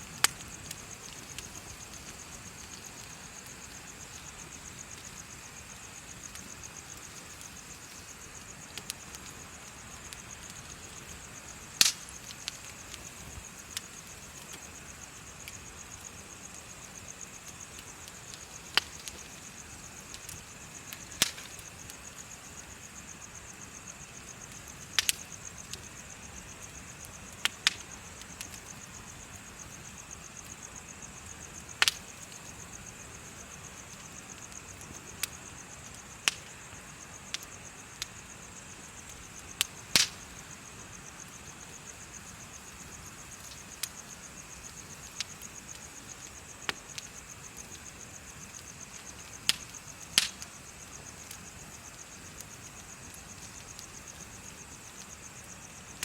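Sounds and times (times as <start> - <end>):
bonfire crackling: 0.0 - 56.0
insects chirping: 0.0 - 56.0.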